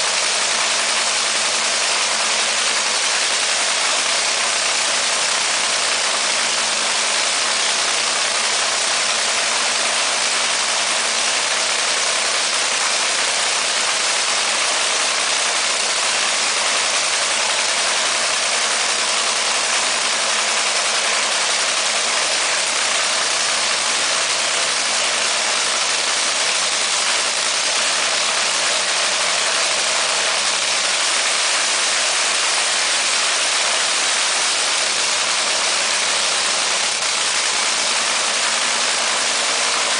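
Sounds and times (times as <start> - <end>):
dragster engine idling loud: 0.0 - 39.9.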